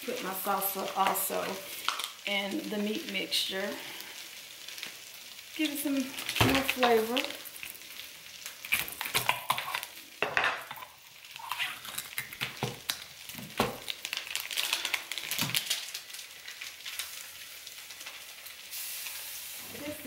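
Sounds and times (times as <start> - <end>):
meat sizzling in a wok: 0.0 - 20.0.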